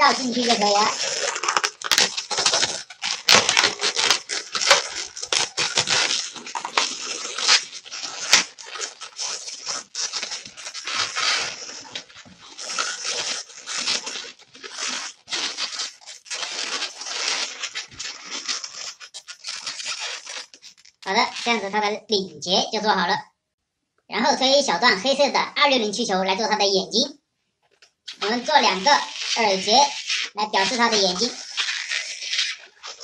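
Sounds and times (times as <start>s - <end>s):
balloons squeaking and rubbing: 0.0s - 22.0s, 28.1s - 33.0s.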